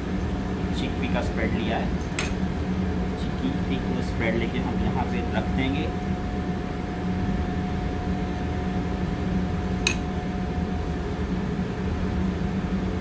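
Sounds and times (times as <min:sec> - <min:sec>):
kitchen ventilation hum: 0:00.0 - 0:13.0.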